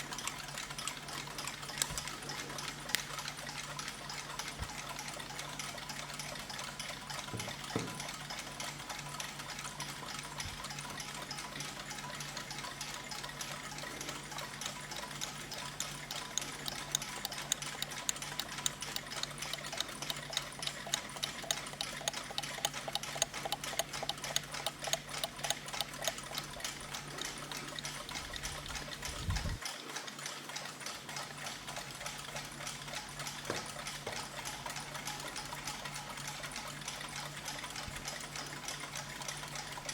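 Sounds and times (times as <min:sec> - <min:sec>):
mechanical clocks ticking: 0:00.0 - 0:39.9.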